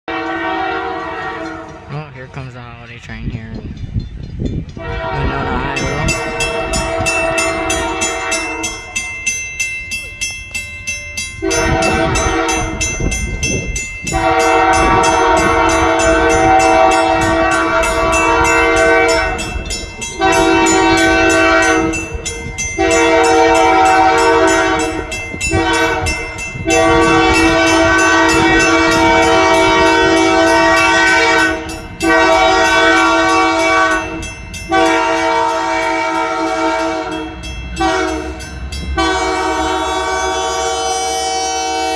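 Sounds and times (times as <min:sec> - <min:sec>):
locomotive air horn blasts: 0:00.0 - 0:02.1, 0:04.8 - 0:09.0, 0:11.4 - 0:13.2, 0:14.0 - 0:41.9
train rumbling and clacking: 0:00.1 - 0:41.9.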